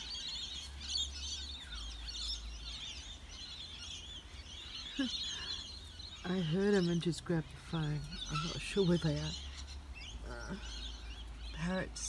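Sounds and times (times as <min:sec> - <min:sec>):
parrots chattering: 0:00.0 - 0:12.0.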